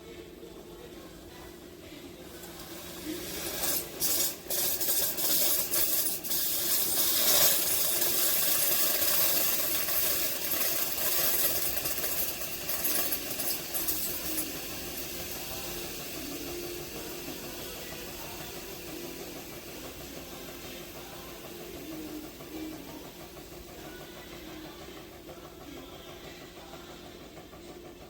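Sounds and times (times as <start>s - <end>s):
coffee maker hissing: 0.0s - 28.0s.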